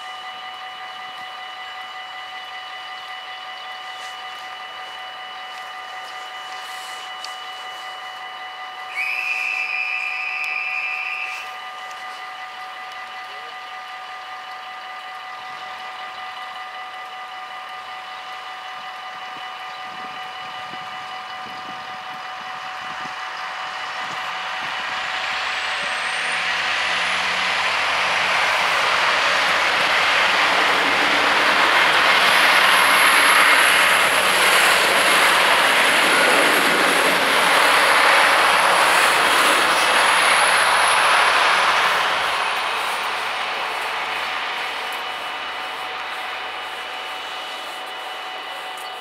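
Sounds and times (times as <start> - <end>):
diesel train passing: 0.0 - 49.0
thin high whine: 0.0 - 49.0.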